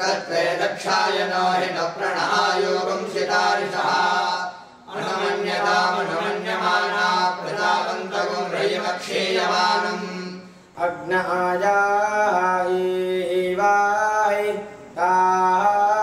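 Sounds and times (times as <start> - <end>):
male voices chanting: 0.0 - 16.0.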